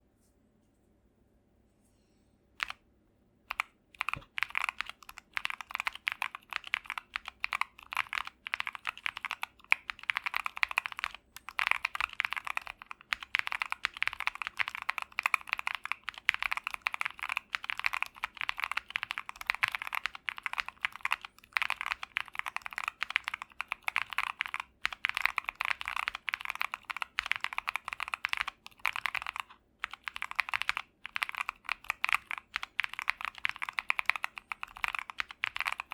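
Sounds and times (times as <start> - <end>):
mechanical keyboard typing: 3.5 - 35.9.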